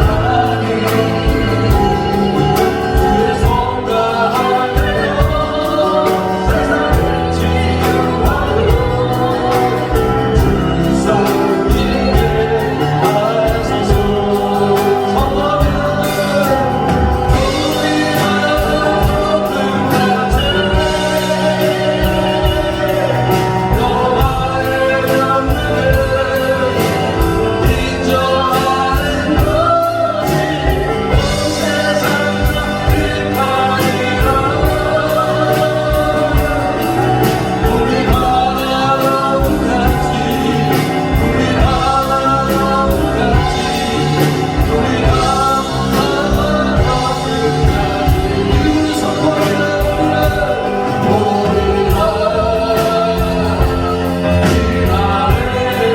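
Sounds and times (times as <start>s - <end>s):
worship song with band: 0.0s - 55.9s.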